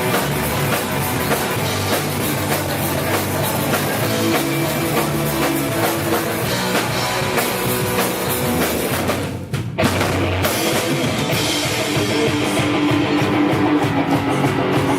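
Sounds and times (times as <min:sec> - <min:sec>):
bass guitar: 0:00.0 - 0:14.9
drum kit: 0:00.0 - 0:14.9
guitar: 0:00.0 - 0:14.9.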